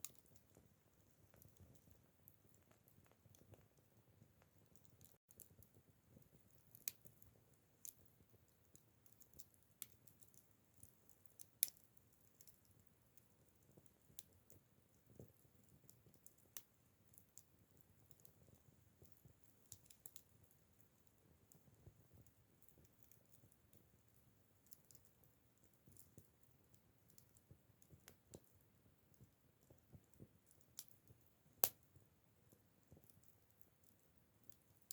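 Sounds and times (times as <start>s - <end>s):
firewood crackling in a campfire: 0.0s - 34.9s.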